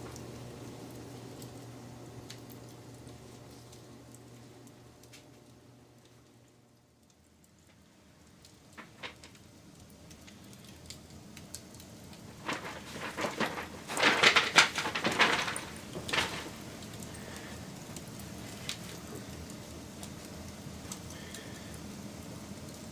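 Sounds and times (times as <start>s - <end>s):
low hiss: 0.0s - 22.9s
wood fire crackling: 0.0s - 22.9s.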